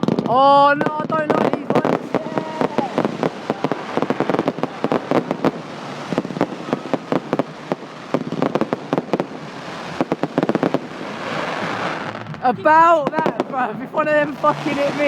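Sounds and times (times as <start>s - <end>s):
fireworks bangs and crackles: 0.0s - 15.0s
fireworks hissing rush: 0.0s - 15.0s.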